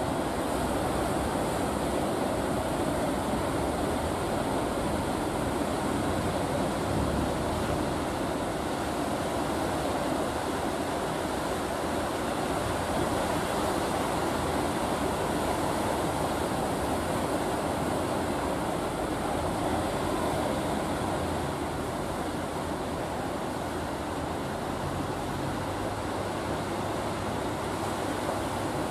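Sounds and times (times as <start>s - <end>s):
faint boat engine hum: 0.0s - 28.9s
surf and breaking waves: 0.0s - 28.9s.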